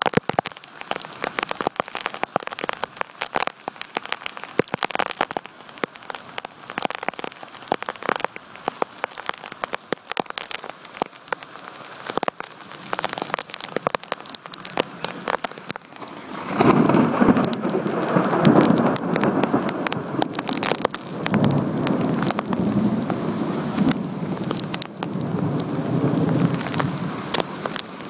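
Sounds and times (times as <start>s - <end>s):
heavy rain pouring on a street: 0.0s - 28.0s
raindrops tapping nearby: 0.0s - 28.0s.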